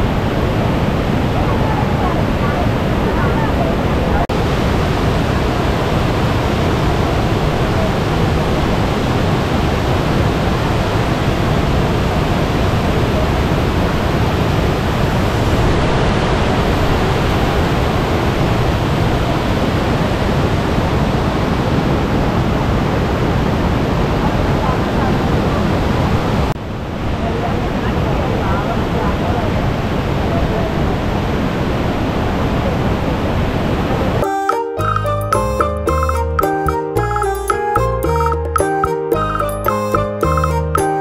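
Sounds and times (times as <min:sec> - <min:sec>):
waterfall roaring: 0:00.0 - 0:34.3.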